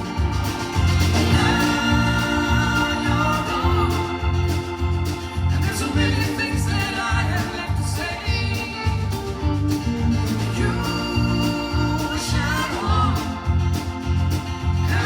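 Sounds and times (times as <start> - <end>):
country-rock band playing live: 0.0 - 15.0.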